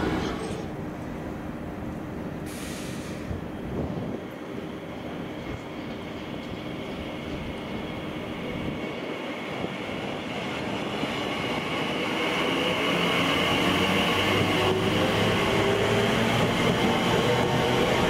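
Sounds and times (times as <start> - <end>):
train rumble and rail noise: 0.0 - 18.0.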